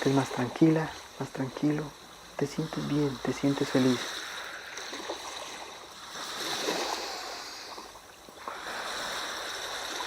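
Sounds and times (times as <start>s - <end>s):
sea waves washing in: 0.0s - 10.0s.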